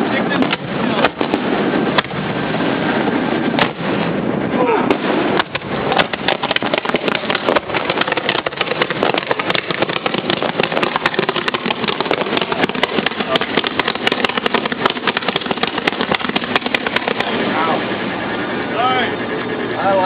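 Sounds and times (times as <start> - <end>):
fireworks crackling: 0.0 - 17.9.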